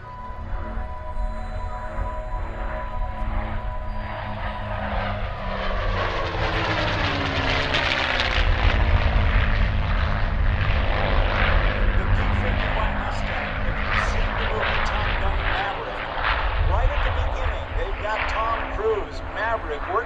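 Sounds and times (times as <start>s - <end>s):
propeller plane engines passing: 0.0s - 20.0s.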